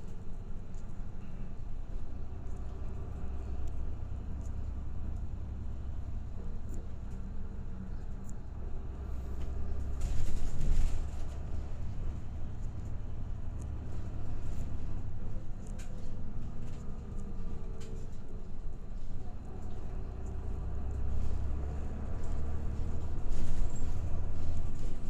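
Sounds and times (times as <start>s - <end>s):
bus engine and road rumble: 0.0s - 25.0s.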